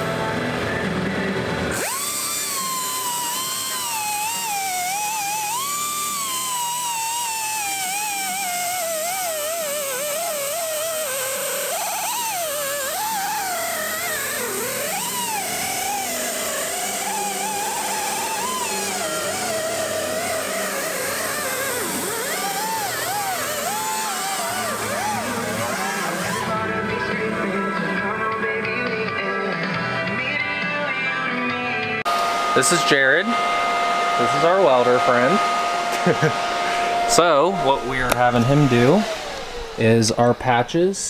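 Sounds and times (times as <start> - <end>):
die grinder whine: 0.0 - 41.0.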